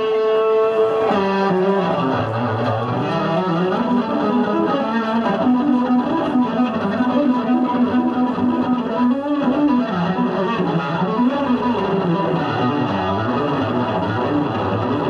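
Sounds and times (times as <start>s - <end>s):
electric bass guitar solo: 0.0s - 15.0s.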